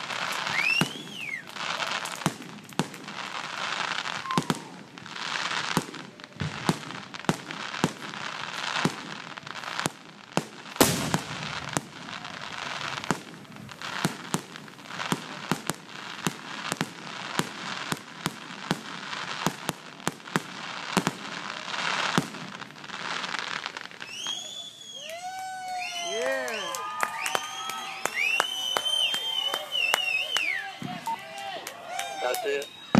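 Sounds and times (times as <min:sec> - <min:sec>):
fireworks banging: 0:00.0 - 0:32.9
fireworks crackling: 0:00.0 - 0:32.9.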